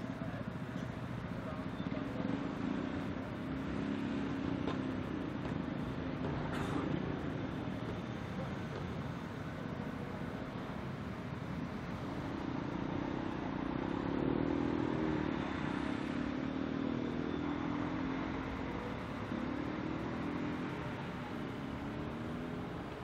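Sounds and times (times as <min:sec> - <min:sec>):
hum of passing traffic: 0:00.0 - 0:23.0.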